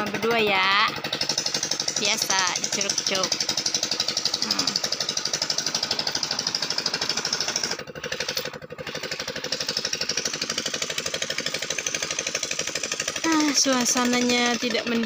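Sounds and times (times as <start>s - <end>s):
small engine knocking: 0.0s - 15.0s.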